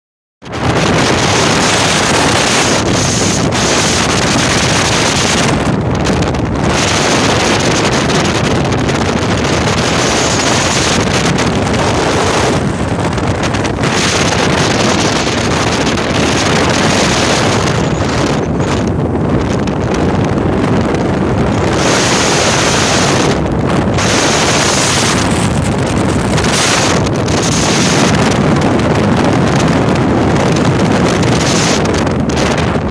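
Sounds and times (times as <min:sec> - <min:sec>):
outboard motor: 0:00.4 - 0:32.9
wind buffeting microphone: 0:00.4 - 0:32.9
water rushing: 0:00.6 - 0:28.4.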